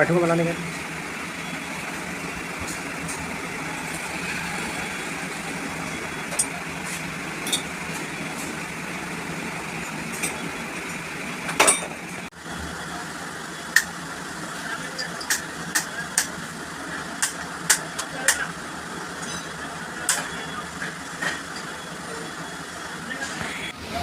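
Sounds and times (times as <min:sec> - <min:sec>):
steady mechanical noise: 0:00.0 - 0:24.0.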